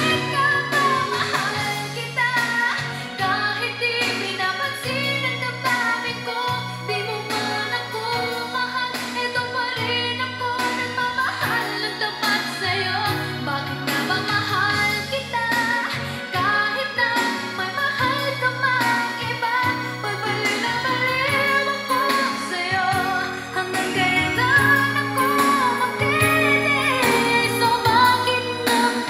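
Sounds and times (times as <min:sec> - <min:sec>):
song through speakers: 0:00.0 - 0:29.0.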